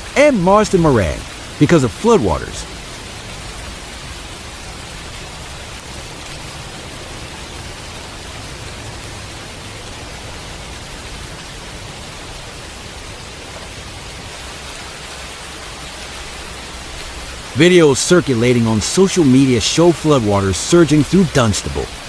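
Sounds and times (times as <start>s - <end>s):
hissing water noise: 0.0s - 22.0s.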